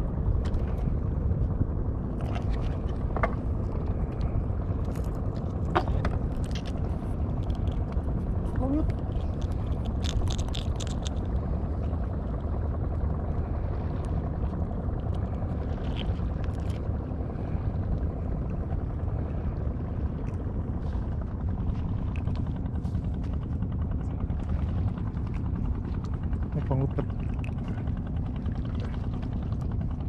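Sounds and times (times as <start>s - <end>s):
boat engine running: 0.0s - 30.0s.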